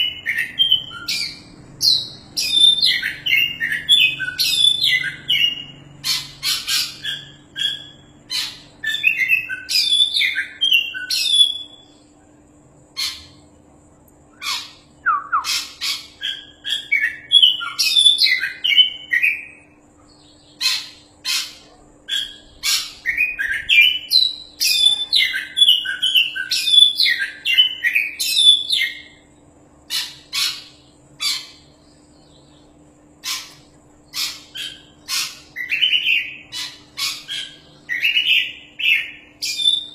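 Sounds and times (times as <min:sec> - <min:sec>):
songbird whistling and rasping: 0:00.0 - 0:12.0, 0:14.3 - 0:19.6, 0:20.2 - 0:29.3, 0:29.9 - 0:39.9.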